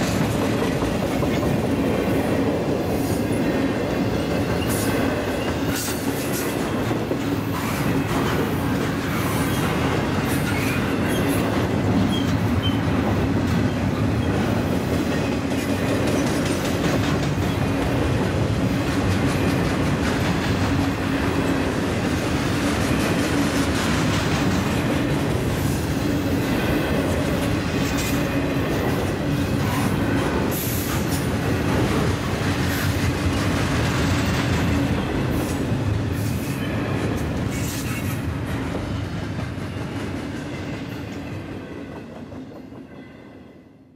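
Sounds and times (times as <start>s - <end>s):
freight train rolling past: 0.0s - 43.9s.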